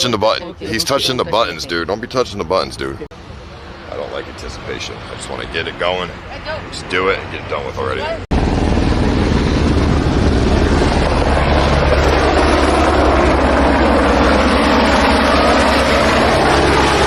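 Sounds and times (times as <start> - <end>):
helicopter engine and rotor: 0.0 - 2.2, 2.8 - 17.0.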